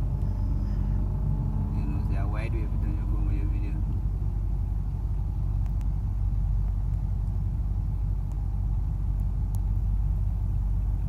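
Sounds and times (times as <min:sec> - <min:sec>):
car driving rumble: 0:00.0 - 0:11.0.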